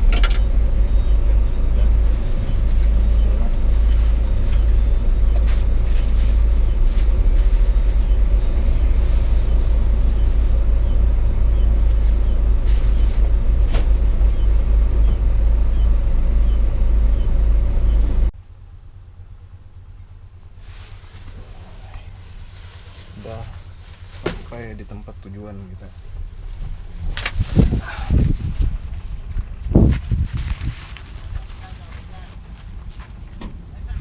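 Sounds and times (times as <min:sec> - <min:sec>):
truck diesel engine drone: 0:00.0 - 0:34.0.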